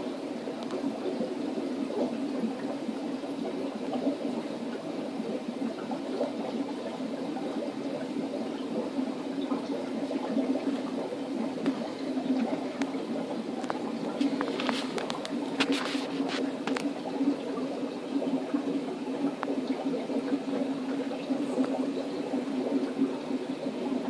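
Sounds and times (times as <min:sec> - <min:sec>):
aquarium filter water bubbling: 0:00.0 - 0:24.0.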